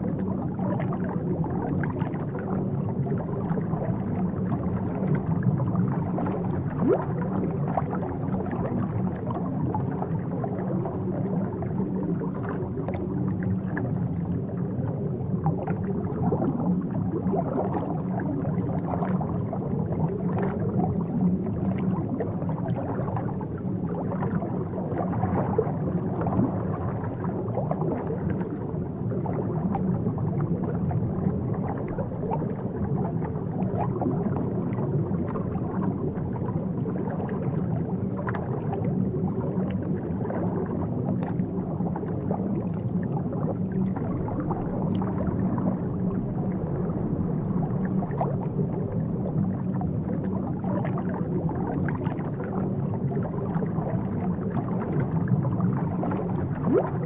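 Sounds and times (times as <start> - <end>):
underwater bubbling and gurgling: 0.0 - 57.0.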